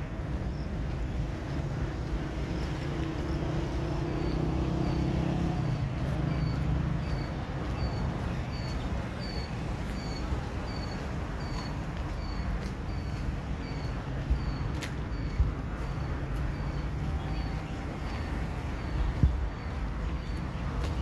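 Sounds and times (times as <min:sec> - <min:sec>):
traffic rumble: 0:00.0 - 0:21.0
vehicle engine hum: 0:00.0 - 0:21.0.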